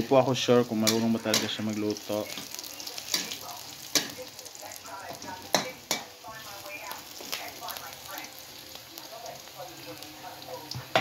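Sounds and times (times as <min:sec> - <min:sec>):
garlic and onion sizzling in oil: 0:00.0 - 0:11.0.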